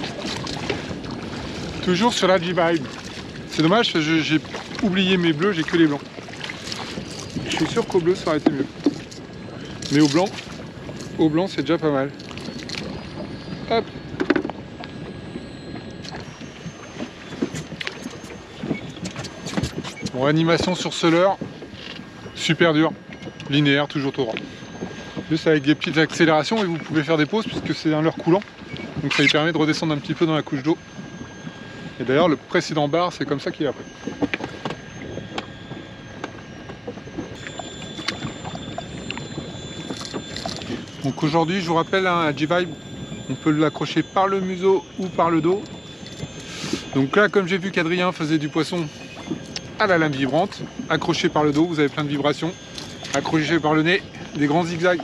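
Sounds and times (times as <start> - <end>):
water hissing around boat: 0.0 - 55.0.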